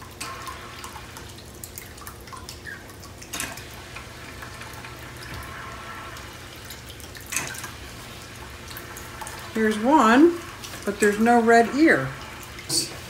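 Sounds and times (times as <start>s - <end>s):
aquarium filter water trickling: 0.0s - 13.0s.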